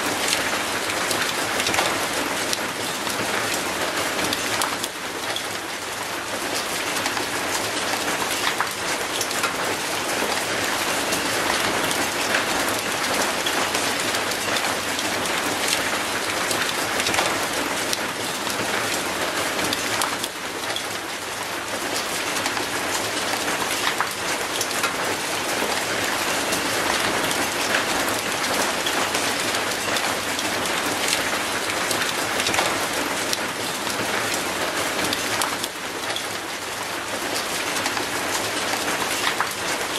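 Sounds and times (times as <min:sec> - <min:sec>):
rain on concrete and metal gate: 0:00.0 - 0:39.9.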